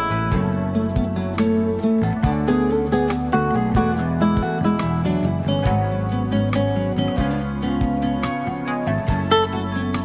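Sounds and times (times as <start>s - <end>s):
guitar music over a steady beat: 0.0s - 10.0s.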